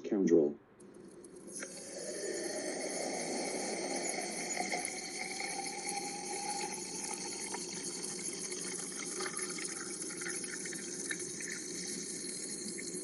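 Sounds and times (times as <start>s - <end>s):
soda spraying out: 1.3s - 13.0s.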